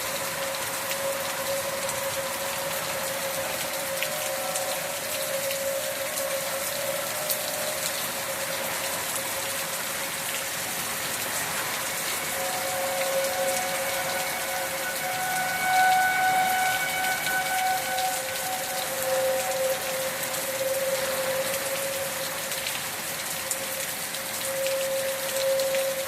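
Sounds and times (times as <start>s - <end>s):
distant warning siren: 0.0s - 26.0s
rain hiss: 0.0s - 26.0s.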